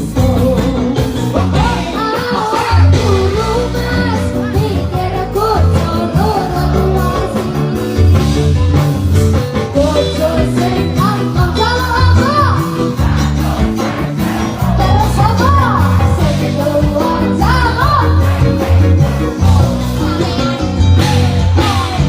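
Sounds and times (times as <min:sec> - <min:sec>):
person singing: 0:00.0 - 0:08.8, 0:09.7 - 0:22.0
heavy pulsing bass: 0:00.0 - 0:22.0.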